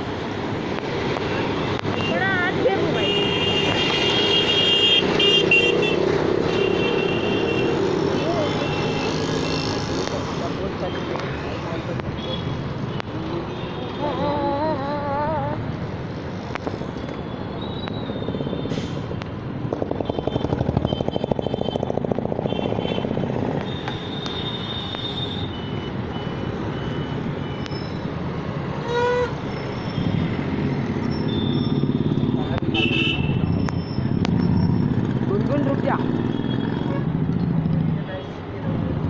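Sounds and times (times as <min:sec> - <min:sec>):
road traffic engine noise: 0:00.0 - 0:39.0.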